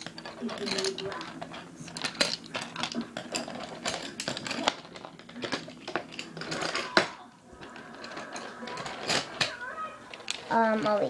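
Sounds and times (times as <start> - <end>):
pencils clattering on wooden table: 0.0 - 11.0.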